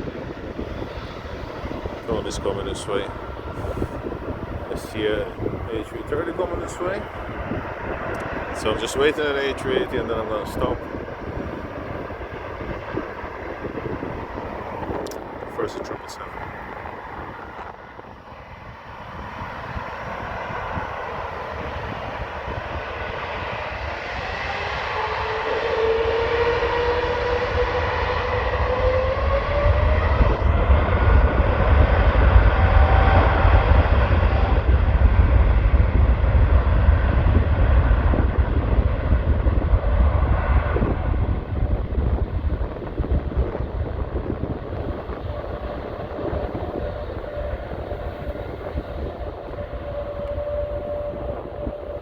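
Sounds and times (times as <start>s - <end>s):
deep rumble: 0.0s - 52.0s
jet engine whine: 0.0s - 52.0s
jet engines roaring at takeoff: 0.0s - 52.0s.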